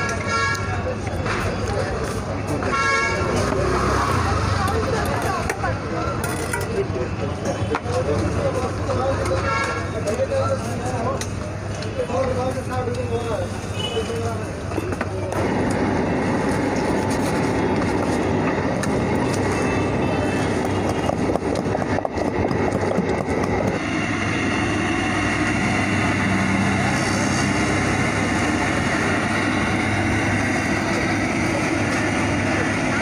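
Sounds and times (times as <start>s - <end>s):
indistinct chatter: 0.0s - 33.0s
traffic noise: 0.0s - 33.0s.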